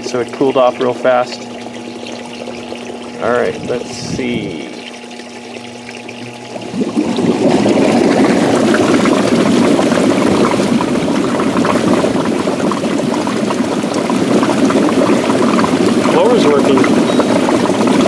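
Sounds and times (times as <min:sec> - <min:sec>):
air blower churning water bubbles: 0:00.0 - 0:18.0.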